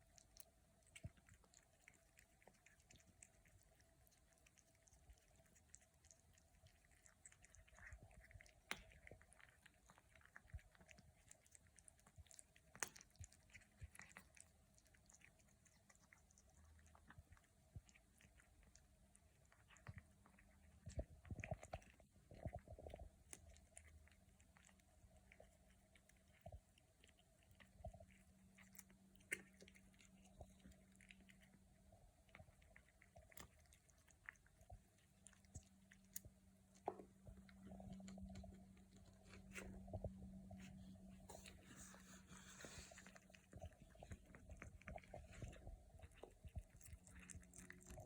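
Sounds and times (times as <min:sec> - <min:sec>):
kitten chewing and crunching: 0:00.0 - 0:48.0.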